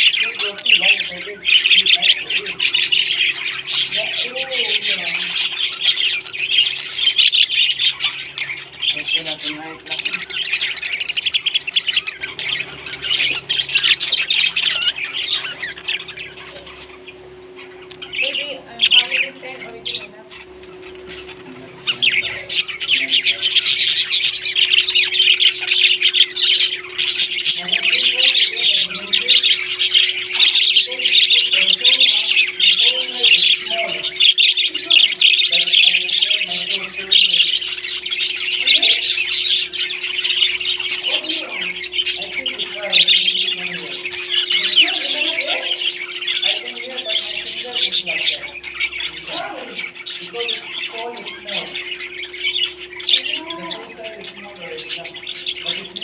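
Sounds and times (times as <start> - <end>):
parrots chattering and squawking: 0.0 - 56.0
steady low hum: 0.0 - 56.0.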